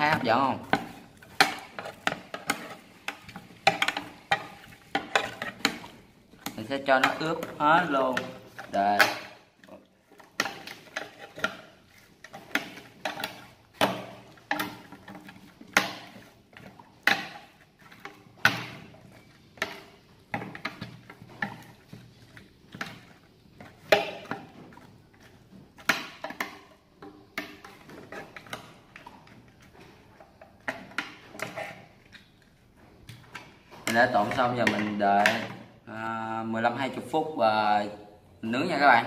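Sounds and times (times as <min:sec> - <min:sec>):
utensils knocking on plastic tub: 0:00.0 - 0:09.5, 0:10.1 - 0:31.8, 0:33.2 - 0:35.7.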